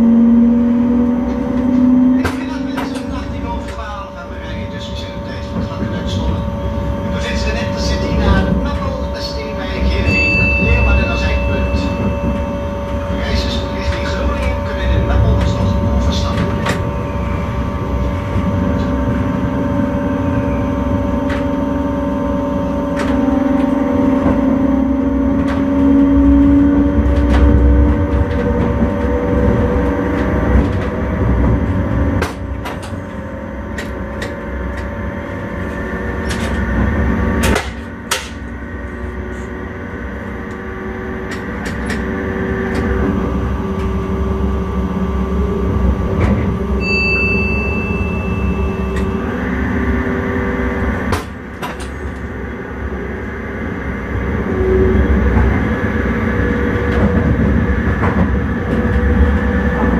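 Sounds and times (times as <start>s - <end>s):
train rumble with motor whine: 0.0s - 59.9s.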